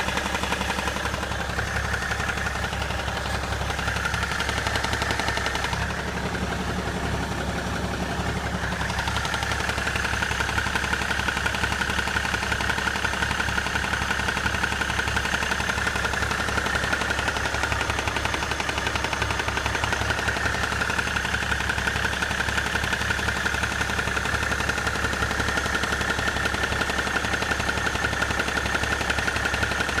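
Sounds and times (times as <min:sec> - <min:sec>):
diesel engine knocking: 0:00.0 - 0:30.0.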